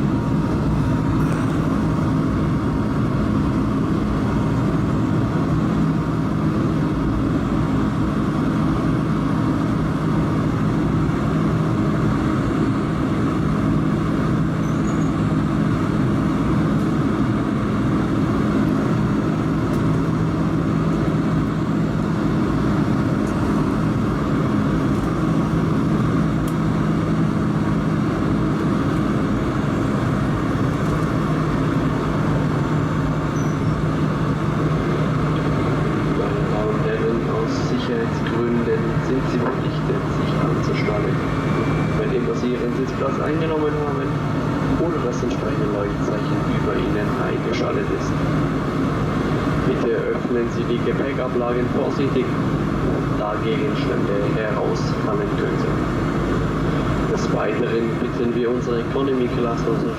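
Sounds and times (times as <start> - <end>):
jet engine drone: 0.0 - 59.9
low hums: 0.0 - 59.9.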